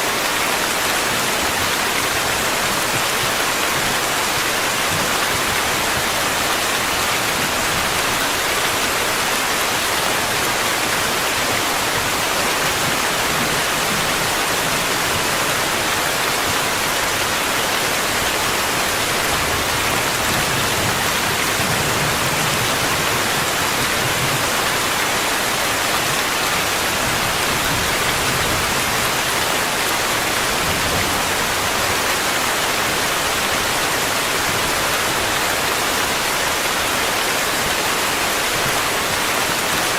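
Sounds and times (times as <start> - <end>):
dense rainfall hiss: 0.0 - 39.9.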